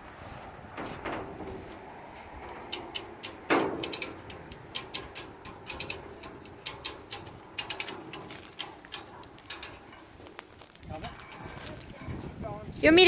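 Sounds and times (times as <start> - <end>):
metal chain clinking and rattling: 0.8 - 13.0.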